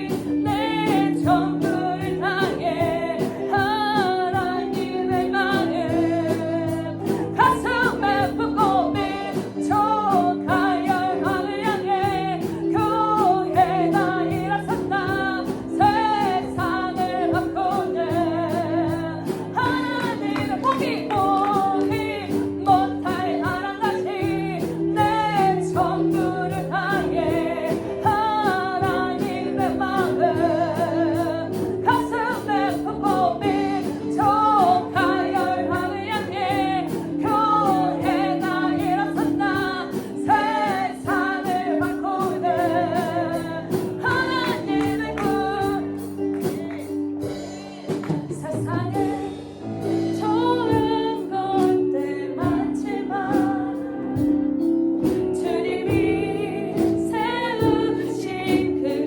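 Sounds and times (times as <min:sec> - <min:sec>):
band accompaniment with steady beat: 0:00.0 - 0:59.0
children's praise song singing: 0:00.0 - 0:59.0.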